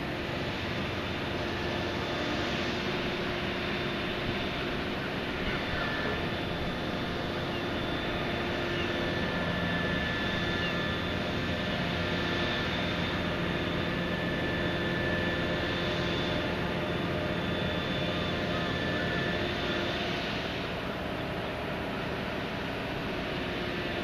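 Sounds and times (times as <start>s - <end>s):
machinery drone: 0.0s - 24.0s
faint whining tones: 0.3s - 24.0s.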